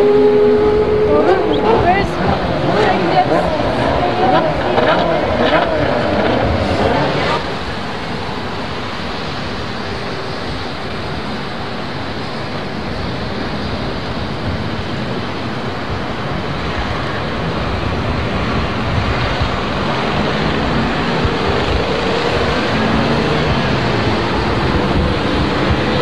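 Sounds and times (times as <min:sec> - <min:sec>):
car engines humming: 0:00.0 - 0:26.0
steady rush of noise: 0:00.0 - 0:26.0.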